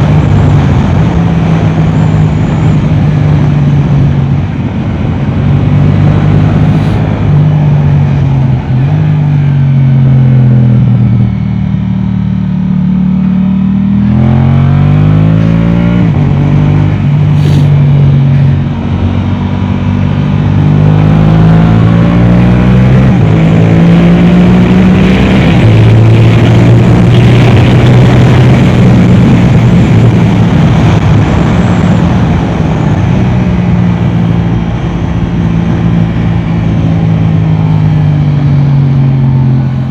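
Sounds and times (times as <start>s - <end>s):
motorcycle engine revving: 5.2s - 39.9s.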